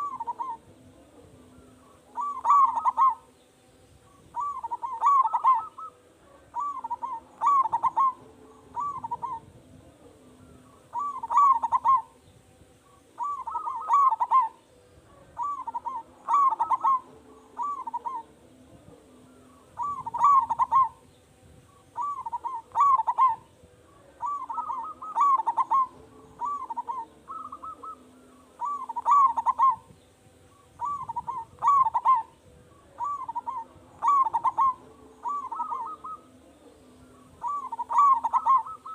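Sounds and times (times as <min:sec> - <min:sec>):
dove cooing: 0:00.0 - 0:03.4, 0:04.0 - 0:21.1, 0:21.7 - 0:38.9.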